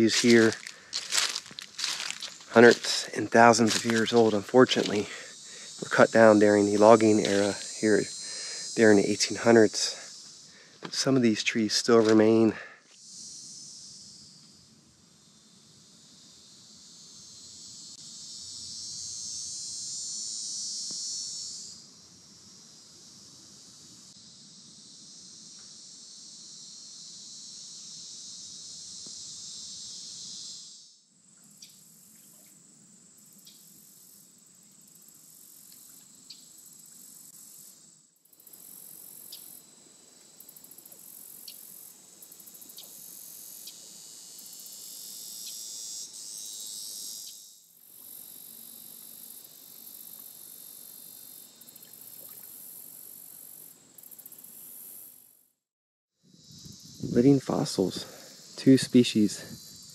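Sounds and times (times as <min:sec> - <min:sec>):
insects buzzing: 0:00.0 - 0:55.5, 0:56.2 - 0:59.9
insect trill with chirps: 0:00.0 - 0:55.6, 0:56.2 - 0:59.9.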